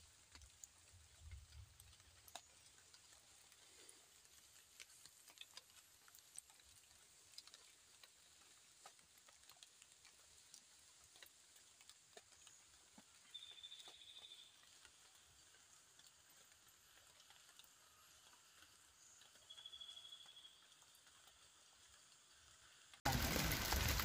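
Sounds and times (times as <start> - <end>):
soft ticks: 0.2 - 21.4.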